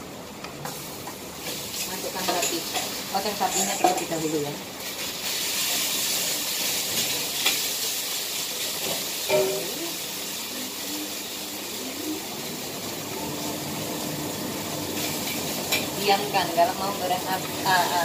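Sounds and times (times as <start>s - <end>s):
beef sizzling in a wok: 0.0s - 18.0s.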